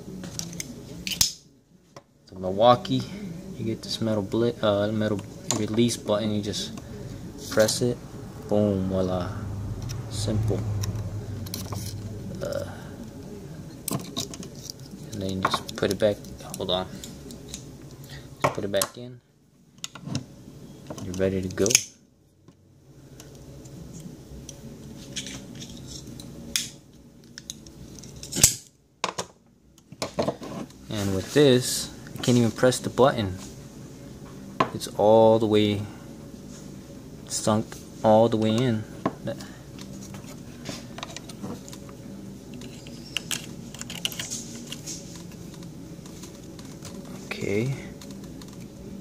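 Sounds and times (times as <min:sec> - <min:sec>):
low steady background noise: 0:00.0 - 0:49.0.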